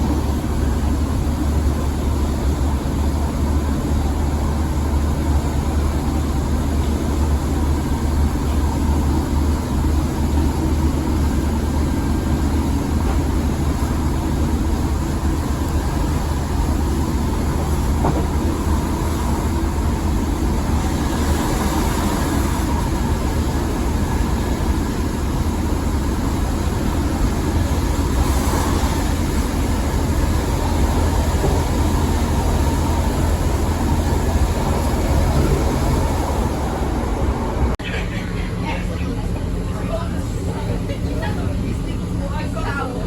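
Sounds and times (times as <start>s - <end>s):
train engine and wheels rumbling: 0.0s - 43.0s.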